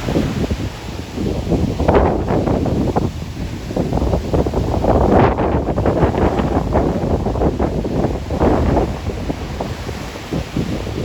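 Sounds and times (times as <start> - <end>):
storm surf breaking on shore: 0.0 - 11.0
wind buffeting microphone: 0.0 - 11.0.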